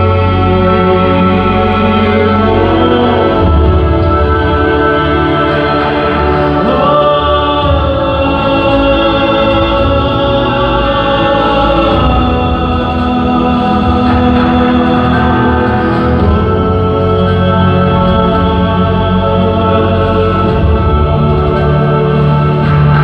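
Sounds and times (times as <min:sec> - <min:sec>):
orchestral backing track: 0:00.0 - 0:23.0
tenor singing long notes: 0:00.0 - 0:23.0.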